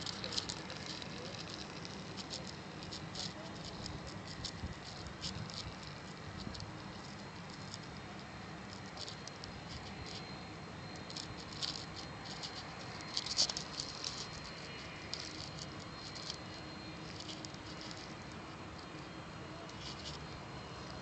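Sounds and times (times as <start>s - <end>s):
crackling and rustling: 0.0s - 21.0s.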